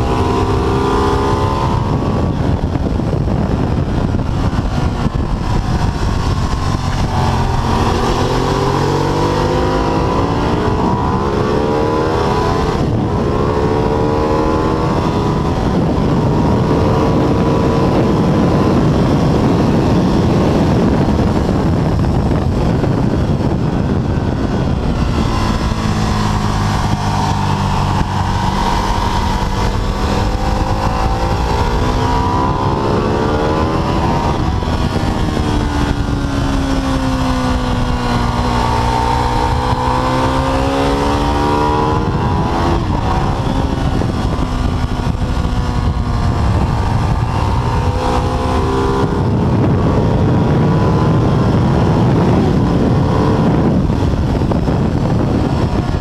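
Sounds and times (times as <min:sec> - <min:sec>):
motorcycle engine at speed: 0:00.0 - 0:56.0
wind rush: 0:00.0 - 0:56.0.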